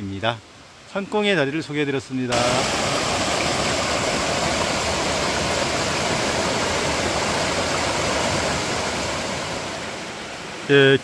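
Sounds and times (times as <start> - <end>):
stream running water: 0.0 - 11.0.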